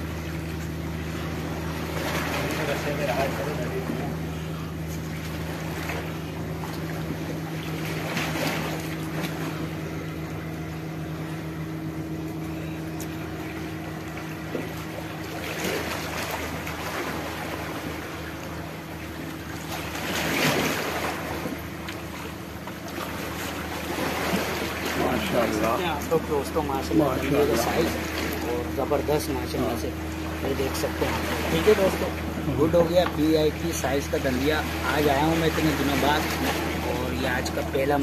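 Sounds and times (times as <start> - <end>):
distant boat engine drone: 0.0 - 38.0.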